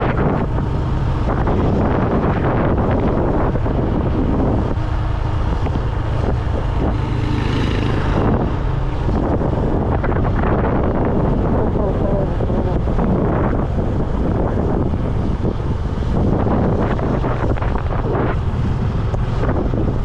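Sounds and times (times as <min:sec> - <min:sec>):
motorbike engine running: 0:00.0 - 0:20.0
wind buffeting microphone: 0:00.0 - 0:20.0.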